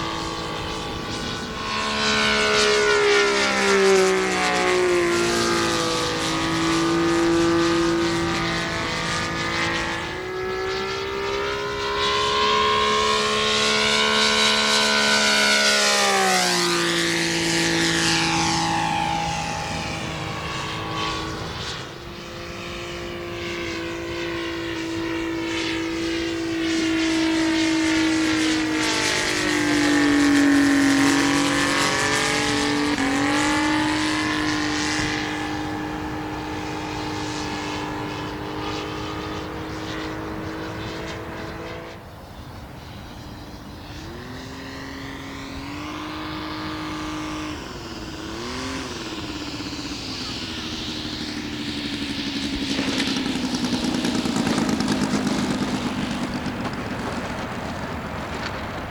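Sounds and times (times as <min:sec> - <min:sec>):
model airplane engine passing by: 0:00.0 - 0:58.9.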